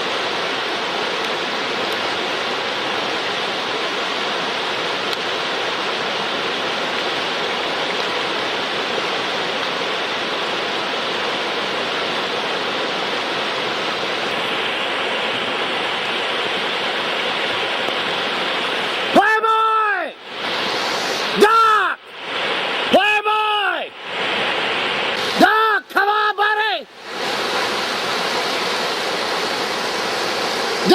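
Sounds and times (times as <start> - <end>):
river water rushing over rocks: 0.0 - 30.9.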